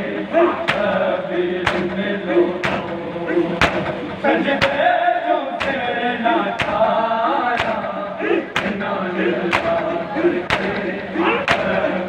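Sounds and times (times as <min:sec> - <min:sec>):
voices chanting a lament: 0:00.0 - 0:12.0.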